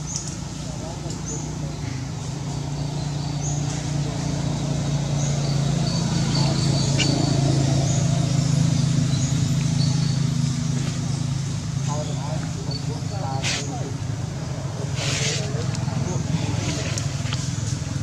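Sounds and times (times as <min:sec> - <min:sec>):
low motor drone: 0:00.0 - 0:18.0.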